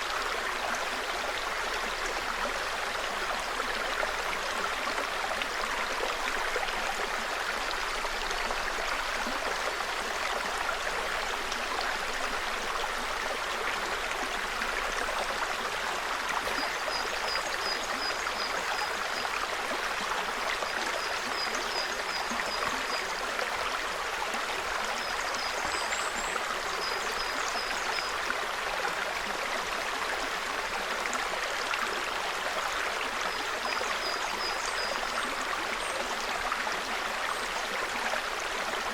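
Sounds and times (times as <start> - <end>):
brook babbling: 0.0 - 38.9.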